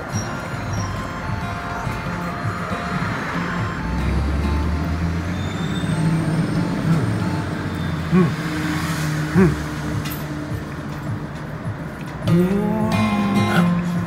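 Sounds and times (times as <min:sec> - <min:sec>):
light background music: 0:00.0 - 0:14.0
road vehicle rumble: 0:00.0 - 0:14.0.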